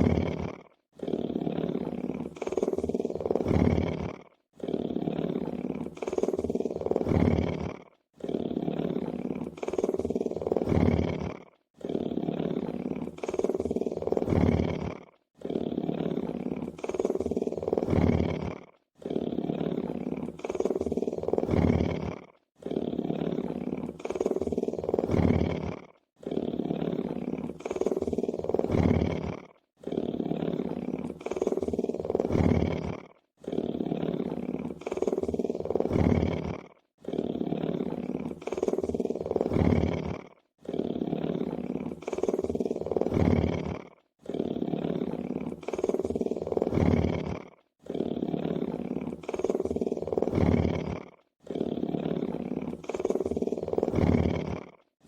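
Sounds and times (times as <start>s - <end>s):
lion purring: 0.0s - 55.0s.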